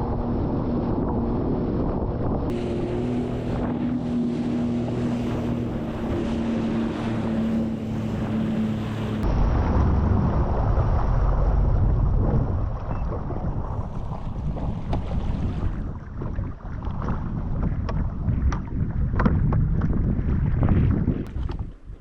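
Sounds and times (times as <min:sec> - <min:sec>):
jet ski engine: 0:00.0 - 0:20.3
water noise: 0:00.0 - 0:22.0
wind noise on microphone: 0:00.0 - 0:22.0.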